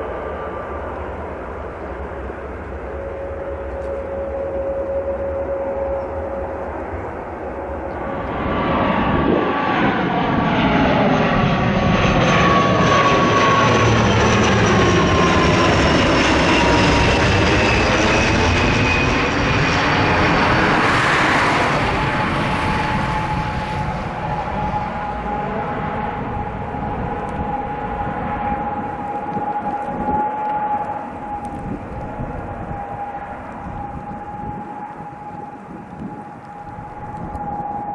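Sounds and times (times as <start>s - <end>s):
turboprop airliner passing by: 0.0s - 37.9s.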